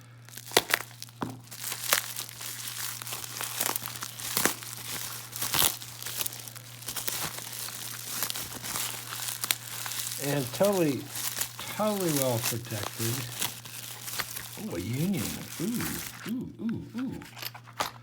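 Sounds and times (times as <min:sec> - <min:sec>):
packing material crinkling and tearing: 0:00.0 - 0:16.3.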